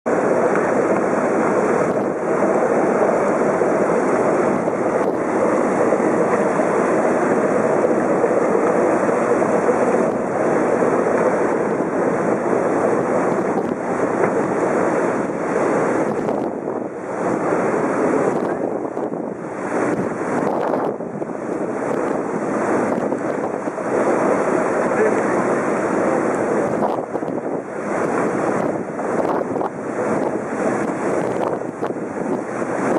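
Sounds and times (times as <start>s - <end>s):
churning water in boat wake: 0.0s - 32.9s
wind buffeting microphone: 0.1s - 32.9s.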